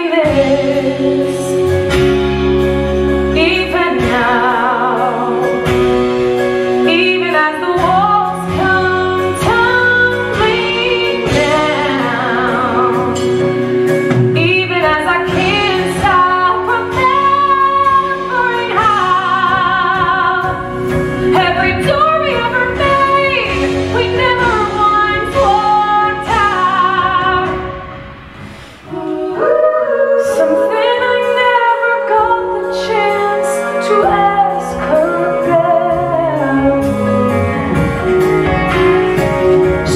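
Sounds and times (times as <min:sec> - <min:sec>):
woman singing with vibrato: 0:00.0 - 0:02.0, 0:03.3 - 0:05.8, 0:06.8 - 0:13.6, 0:14.4 - 0:27.9, 0:28.8 - 0:37.8
instrumental accompaniment: 0:00.0 - 0:39.9.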